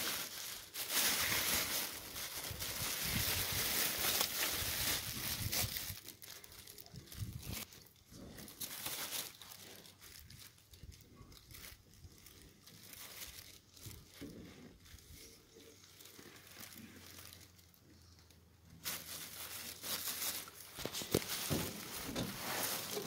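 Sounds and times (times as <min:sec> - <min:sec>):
trash crumpling and rustling: 0:00.0 - 0:23.0.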